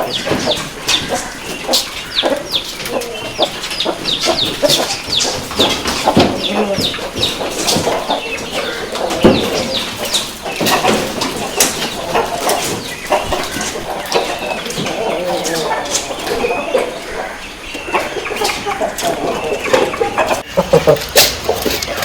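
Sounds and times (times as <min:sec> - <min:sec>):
chickens clucking and chirping: 0:00.0 - 0:22.0.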